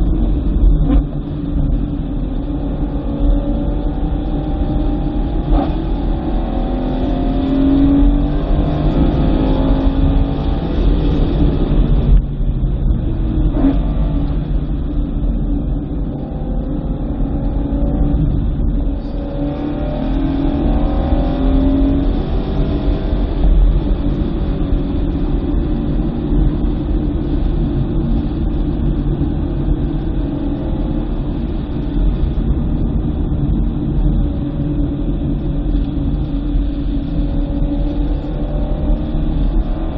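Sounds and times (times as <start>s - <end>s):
car engine revving: 0.0s - 39.9s
road and tyre noise: 0.0s - 39.9s.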